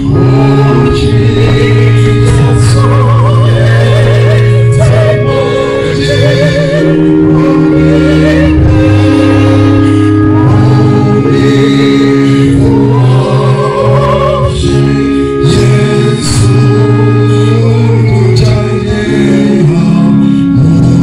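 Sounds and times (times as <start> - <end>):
group singing gospel song: 0.0 - 21.0
long held notes: 0.0 - 21.0.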